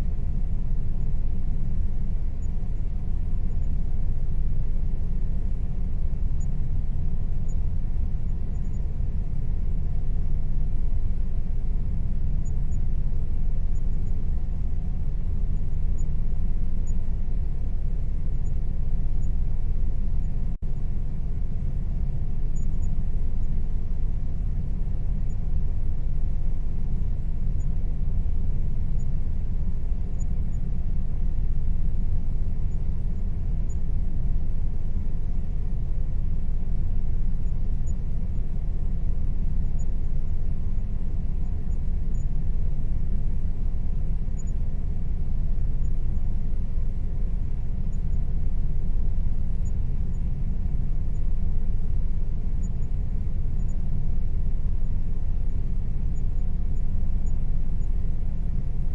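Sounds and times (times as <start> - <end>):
faint steady tones: 0.0 - 58.9.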